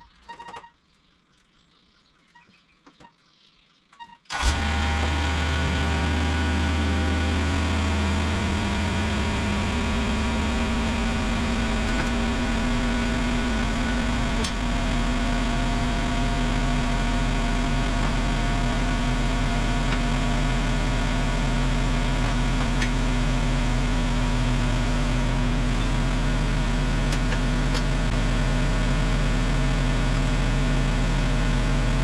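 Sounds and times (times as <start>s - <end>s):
engine running steadily: 4.3s - 32.0s.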